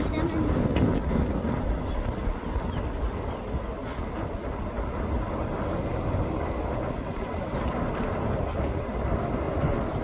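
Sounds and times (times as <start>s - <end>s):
distant train rumble: 0.0s - 10.0s.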